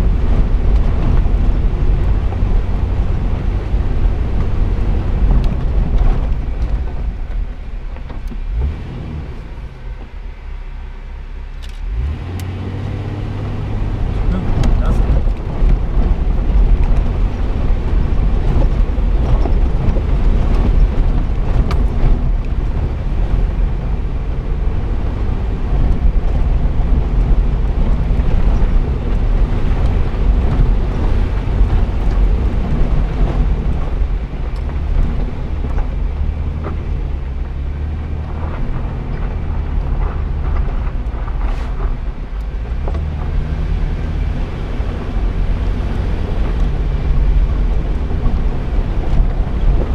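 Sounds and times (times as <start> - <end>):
wind buffeting microphone: 0.0 - 10.2, 11.9 - 49.9
car engine running: 0.0 - 49.9.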